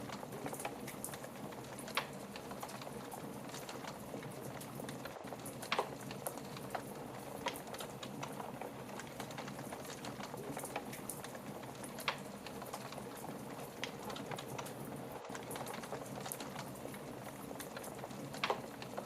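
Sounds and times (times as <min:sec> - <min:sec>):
fire popping: 0:00.0 - 0:19.0
wood fire crackling: 0:00.0 - 0:19.0.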